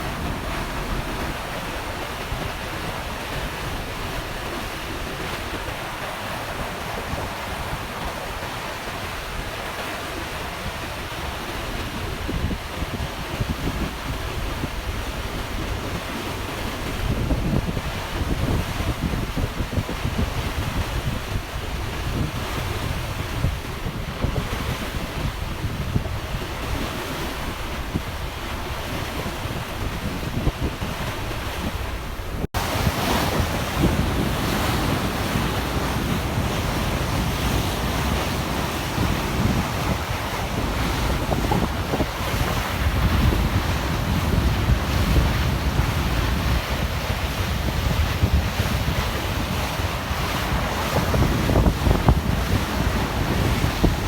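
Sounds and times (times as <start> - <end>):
water rushing past ferry: 0.0 - 54.0
wind buffeting microphone: 0.0 - 54.0.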